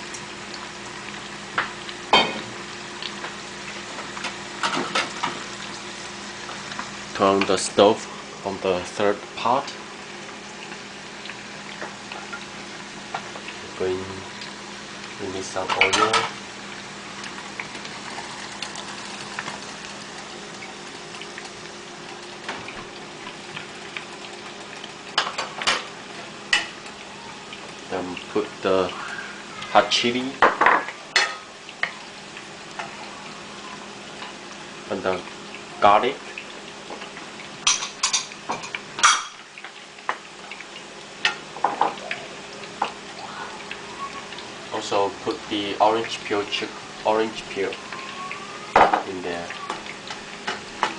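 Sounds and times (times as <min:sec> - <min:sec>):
chicken frying in hot oil: 0:00.0 - 0:50.9
water boiling in pot: 0:00.0 - 0:50.9.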